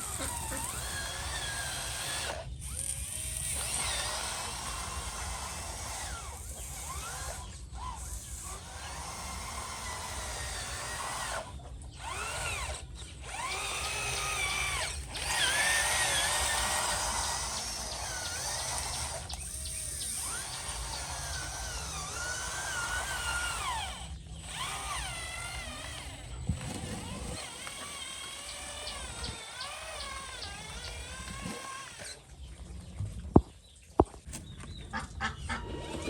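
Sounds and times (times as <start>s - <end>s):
small electric motors whining: 0.0s - 32.5s.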